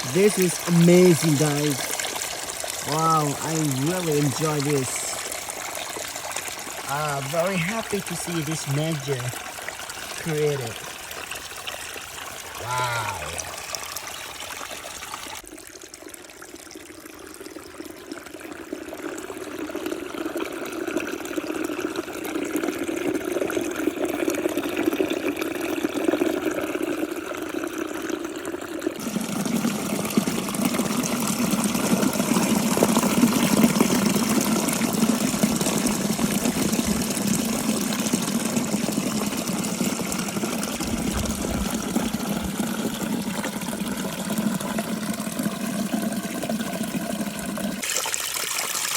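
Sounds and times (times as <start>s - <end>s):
small waterfall splashing: 0.0s - 18.2s, 19.2s - 48.9s.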